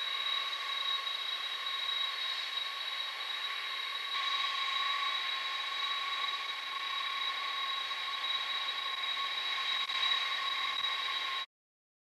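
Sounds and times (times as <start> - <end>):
jet engines idling whine: 0.0 - 11.5.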